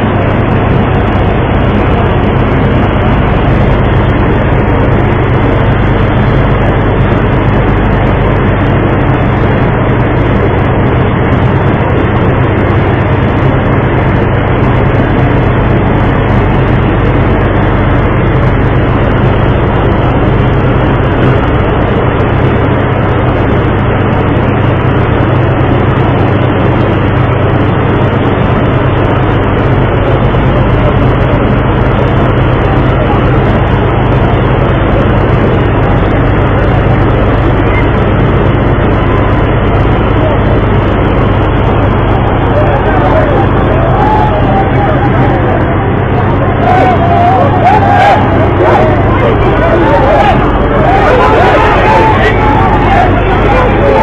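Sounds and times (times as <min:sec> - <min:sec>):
rushing water noise: 0:00.0 - 0:54.0
ship engine droning: 0:00.0 - 0:54.0.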